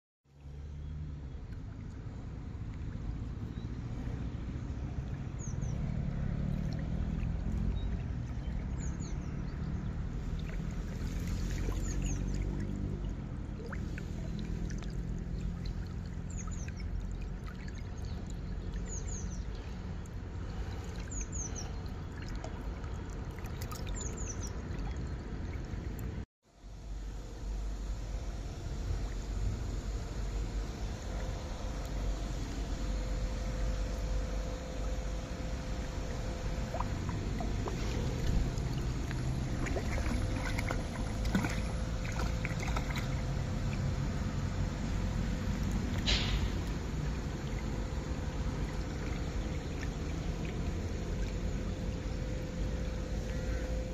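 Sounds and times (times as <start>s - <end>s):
steady low rumble: 1.2s - 53.9s
water rushing and splashing: 1.5s - 26.2s, 34.3s - 53.8s.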